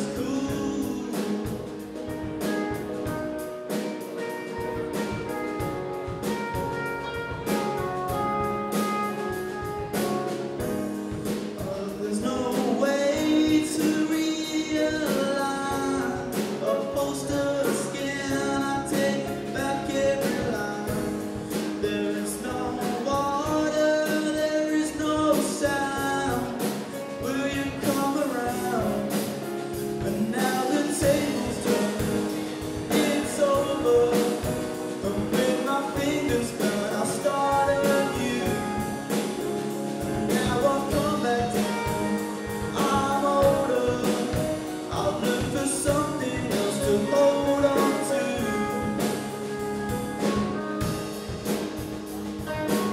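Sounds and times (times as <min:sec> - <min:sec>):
person singing: 0:00.0 - 0:10.4, 0:11.2 - 0:52.9
drum kit beat: 0:00.0 - 0:52.9
electric guitar: 0:00.0 - 0:52.9
piano: 0:00.0 - 0:52.9.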